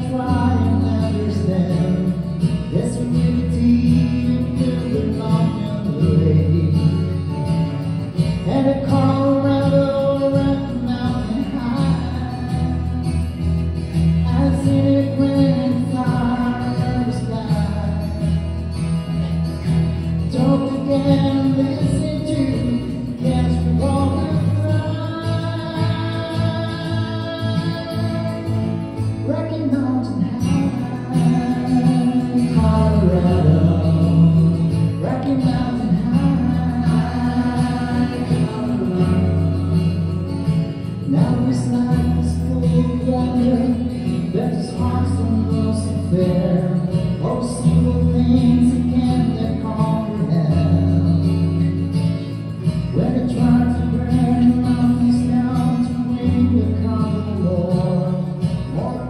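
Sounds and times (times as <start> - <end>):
acoustic guitar music: 0.0 - 59.0
low bass line: 0.0 - 59.0.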